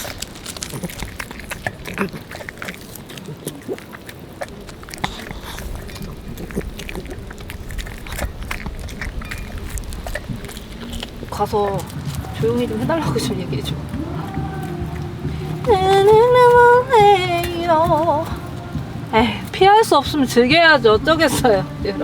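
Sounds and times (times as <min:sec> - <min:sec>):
dog chewing: 0:00.0 - 0:22.0.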